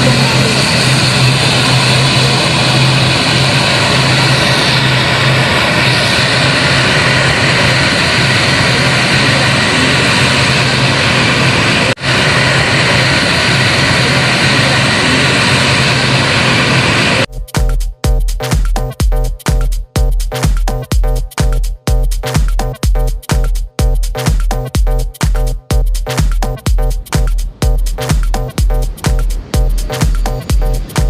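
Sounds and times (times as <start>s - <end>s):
aircraft engines running: 0.0s - 31.0s.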